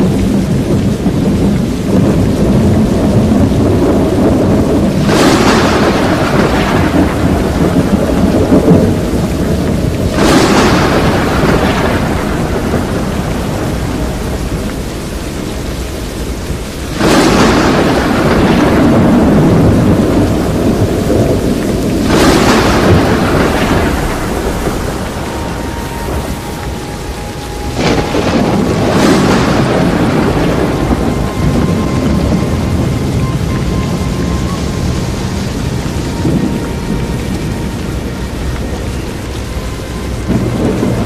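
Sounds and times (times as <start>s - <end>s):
heavy rain: 0.0s - 41.0s
thunder-like roars: 0.0s - 41.0s
wind: 0.0s - 41.0s.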